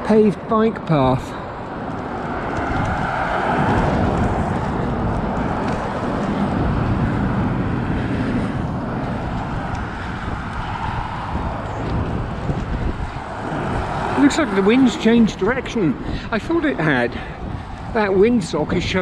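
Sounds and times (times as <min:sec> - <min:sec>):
cars passing: 0:00.0 - 0:19.0
wind noise on microphone: 0:01.4 - 0:19.0.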